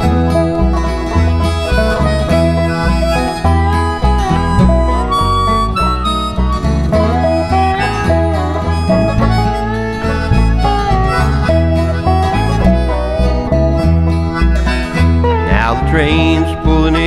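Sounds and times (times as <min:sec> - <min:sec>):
acoustic guitar: 0:00.0 - 0:17.0
harmonica melody: 0:00.0 - 0:17.0
low bass line: 0:00.0 - 0:17.0.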